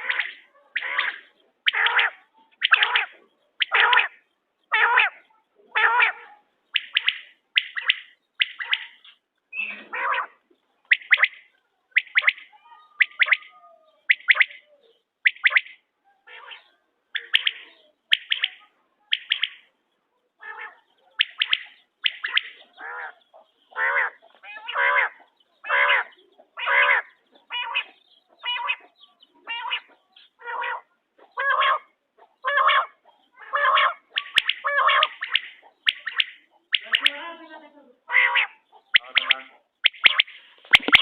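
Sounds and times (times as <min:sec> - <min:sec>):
quail calling: 0:00.0 - 0:19.7, 0:20.4 - 0:41.0.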